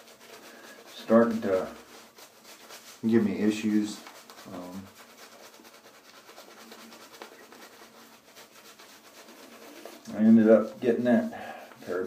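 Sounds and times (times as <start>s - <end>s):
shaving brush scrubbing: 0.0s - 12.0s.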